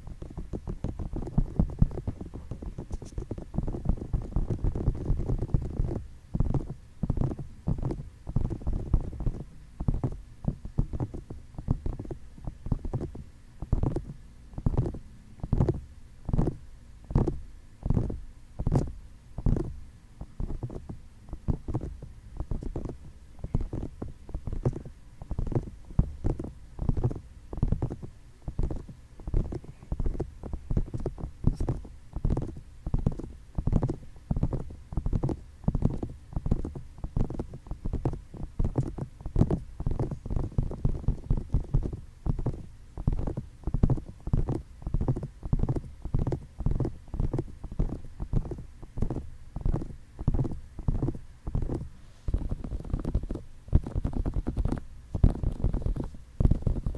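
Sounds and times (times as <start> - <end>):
fingertips tapping on microphone: 0.0 - 56.9.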